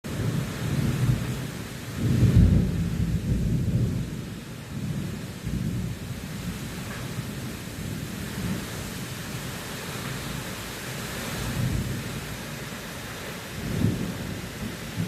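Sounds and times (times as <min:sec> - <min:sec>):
heavy rain pouring: 0:00.0 - 0:15.0
strong wind rumbling: 0:00.1 - 0:15.0.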